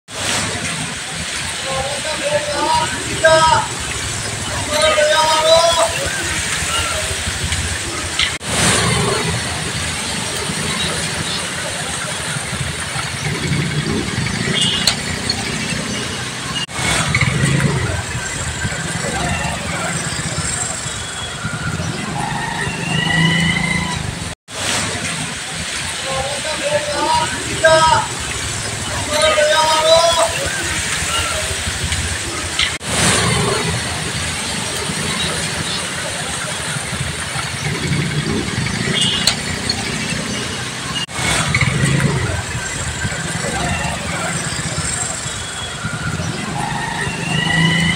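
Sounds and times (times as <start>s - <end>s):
street noise rumble: 0.1s - 47.9s
motorcycle engines at low speed: 0.2s - 47.9s.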